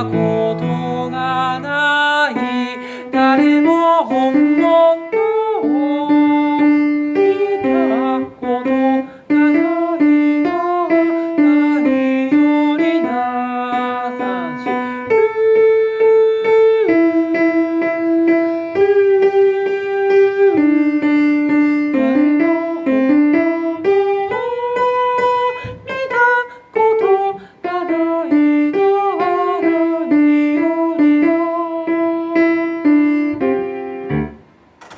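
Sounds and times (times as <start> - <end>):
piano accompaniment: 0.0 - 34.9.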